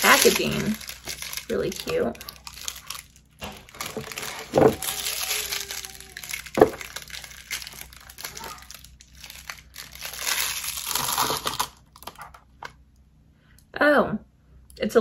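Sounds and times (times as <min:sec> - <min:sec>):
plastic shrink-wrap crinkling: 0:00.0 - 0:12.6.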